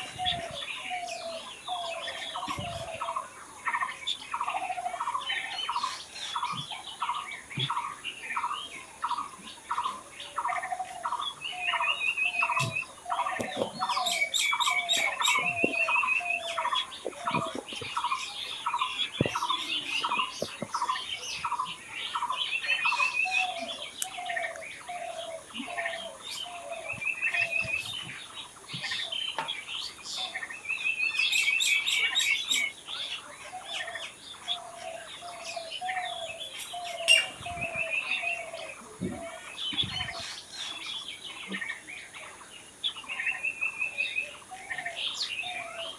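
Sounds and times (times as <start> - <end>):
birds calling and singing: 0.0 - 45.9.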